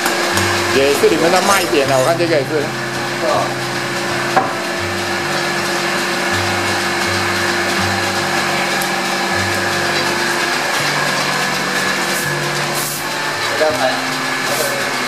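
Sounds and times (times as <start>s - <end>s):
roasting drum motor whirring: 0.0s - 15.0s.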